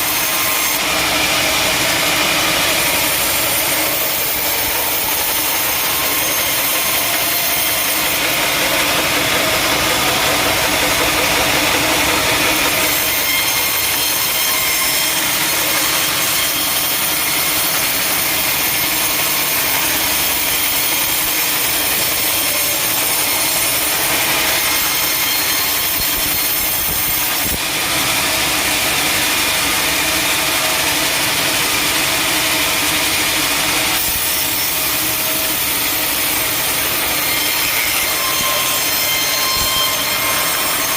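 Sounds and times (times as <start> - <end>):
saw cutting through log: 0.0 - 40.9.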